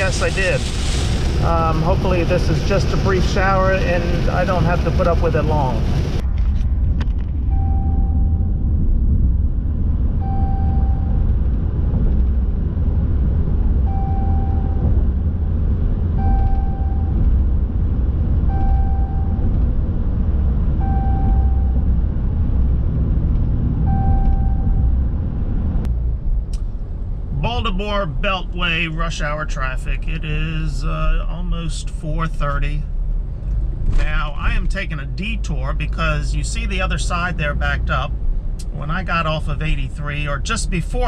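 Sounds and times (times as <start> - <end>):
road and engine rumble: 0.0 - 41.0.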